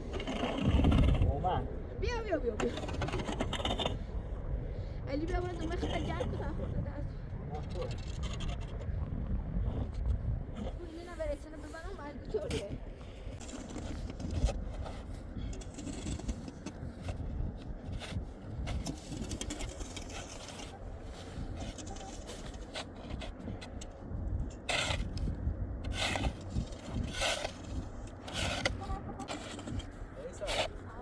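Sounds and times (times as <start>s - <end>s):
scraping and rubbing: 0.0s - 1.6s, 2.3s - 4.2s, 7.6s - 9.1s, 9.7s - 31.0s
steady low rumble: 0.0s - 31.0s.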